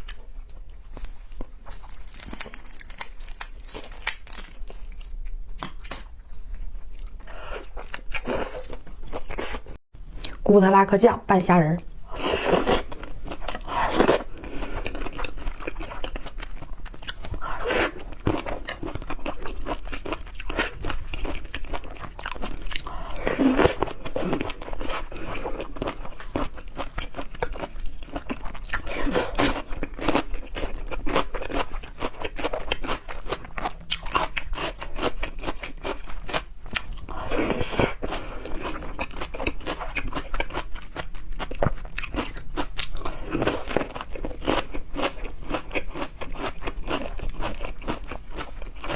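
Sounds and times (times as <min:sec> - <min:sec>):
biting and chewing seafood: 0:00.0 - 0:10.4, 0:11.9 - 0:48.9.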